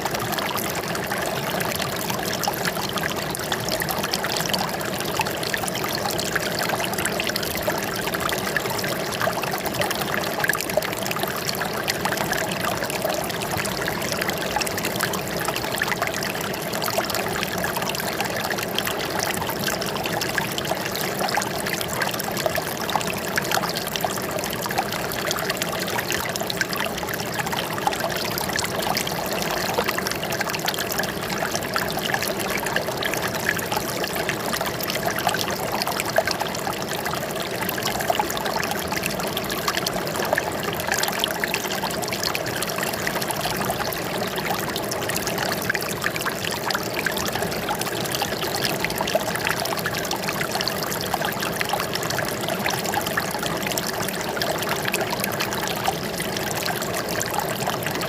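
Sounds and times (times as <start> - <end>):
water trickling and splashing: 0.0 - 58.0.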